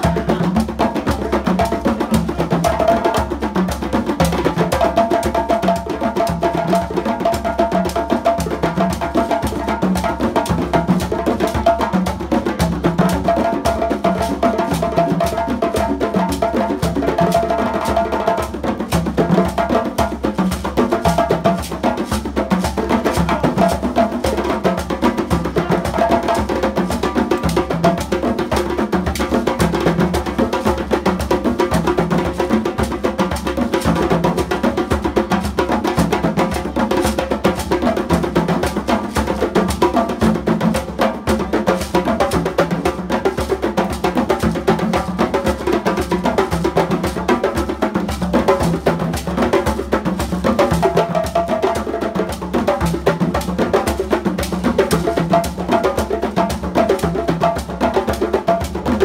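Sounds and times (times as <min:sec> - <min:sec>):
hand drum ensemble polyrhythm: 0:00.0 - 0:59.0.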